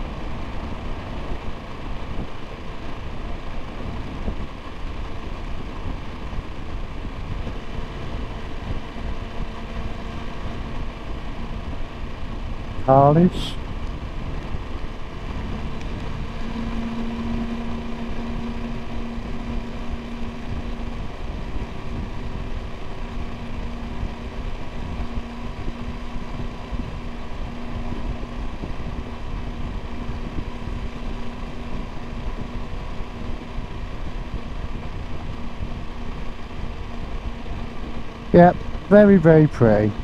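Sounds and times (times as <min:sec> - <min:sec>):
motorcycle engine drone: 0:00.0 - 0:40.0
road noise: 0:00.0 - 0:40.0
wind noise: 0:00.0 - 0:40.0.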